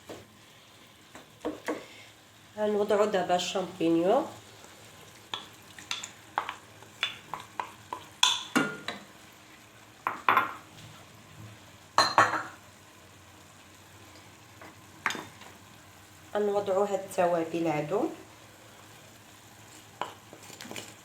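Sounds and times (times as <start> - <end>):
food sizzling in pan: 0.0 - 21.0.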